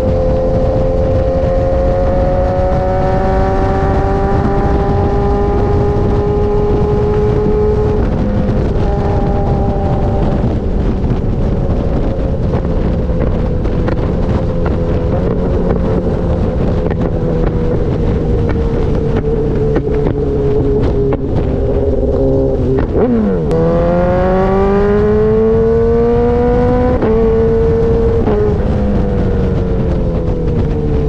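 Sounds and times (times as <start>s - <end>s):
exhaust crackles: 0.0s - 31.0s
motorcycle engine revving: 0.0s - 31.0s
wind rush on microphone: 0.0s - 31.0s.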